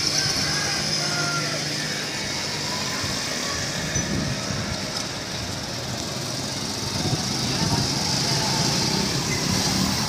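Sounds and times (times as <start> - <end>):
motorcycles riding past: 0.0 - 10.0
street noise: 0.0 - 10.0.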